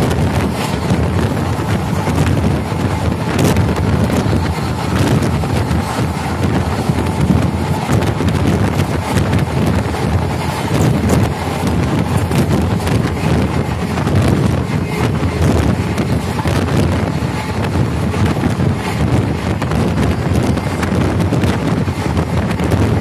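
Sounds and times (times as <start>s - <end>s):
train wheels rumbling on track: 0.0s - 23.0s
wind buffeting microphone: 0.0s - 23.0s.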